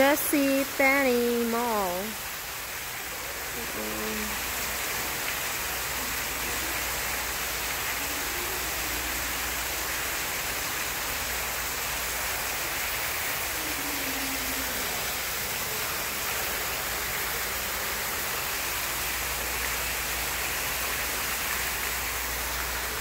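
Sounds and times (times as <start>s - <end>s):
fountain water splashing: 0.0s - 23.0s.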